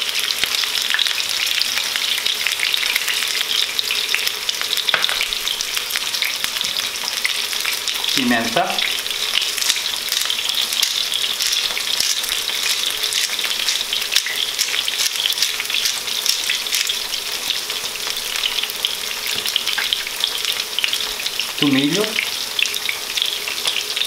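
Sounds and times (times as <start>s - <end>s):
oil sizzling around frying potatoes: 0.0s - 24.0s.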